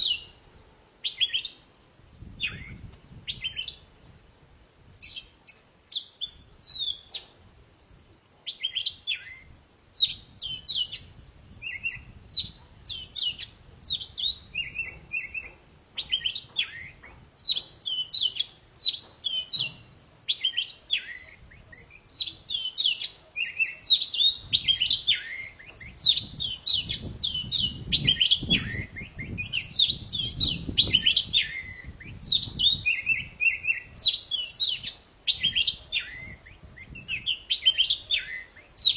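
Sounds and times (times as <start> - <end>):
bird singing sharp chirps: 2.2 - 3.9, 4.8 - 38.9.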